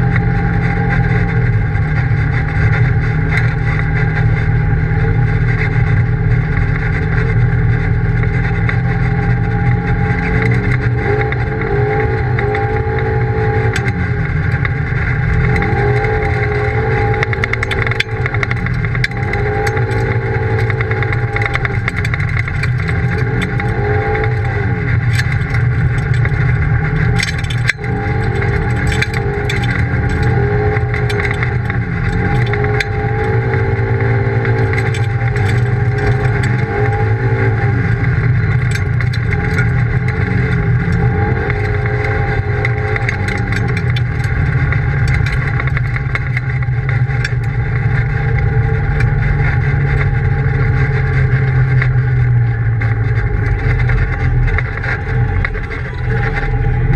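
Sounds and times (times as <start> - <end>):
off-road vehicle engine revving: 0.0 - 56.9
steady low rumble: 0.0 - 56.9.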